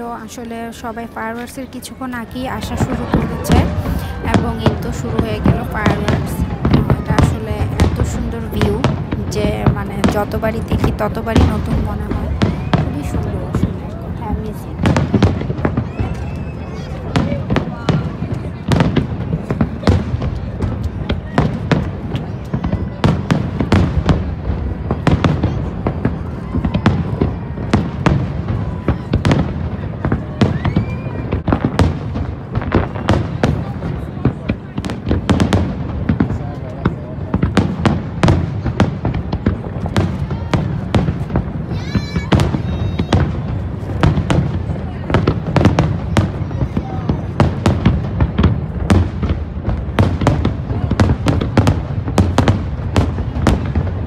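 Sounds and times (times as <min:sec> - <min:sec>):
fireworks booming and cracking: 0:00.0 - 0:54.0.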